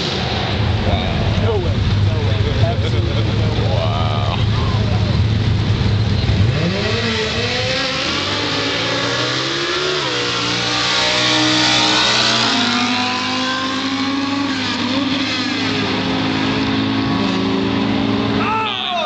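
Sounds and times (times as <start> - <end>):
drag racing car engines accelerating: 0.0 - 19.0.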